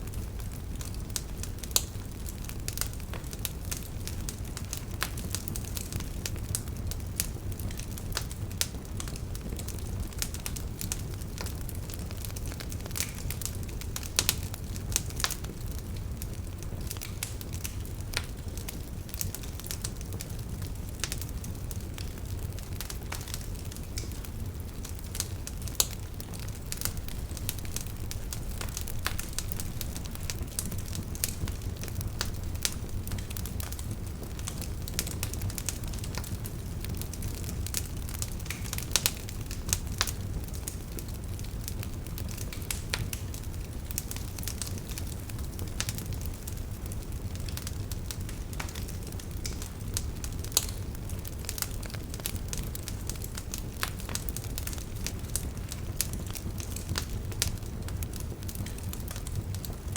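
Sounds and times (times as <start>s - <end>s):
campfire flames rumbling: 0.0s - 59.9s
fire crackling and popping: 0.0s - 59.9s.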